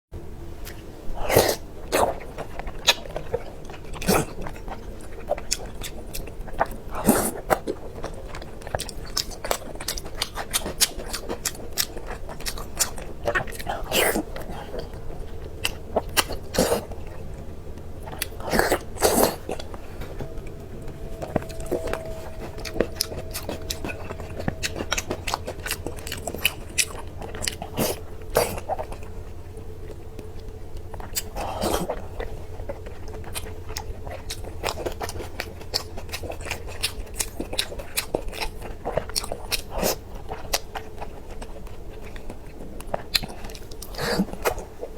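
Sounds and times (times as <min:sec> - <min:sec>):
person crunching and chewing: 0:00.6 - 0:44.9.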